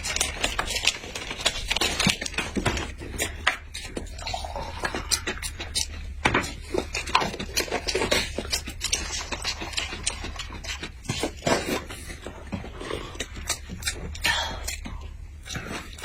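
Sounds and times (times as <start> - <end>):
low steady hum: 0.0 - 16.0
person chewing: 0.0 - 16.0.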